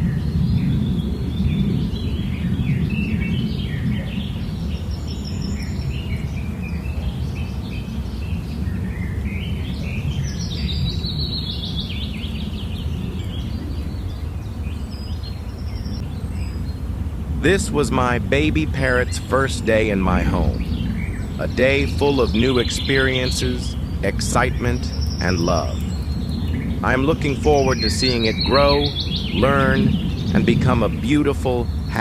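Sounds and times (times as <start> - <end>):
bird chirps: 0.0 - 32.0
steady low rumble: 0.0 - 32.0.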